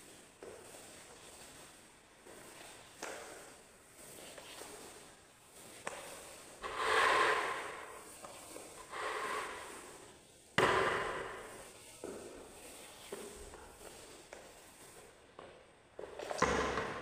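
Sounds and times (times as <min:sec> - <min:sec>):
wet mop swishing across floor: 0:00.0 - 0:16.4.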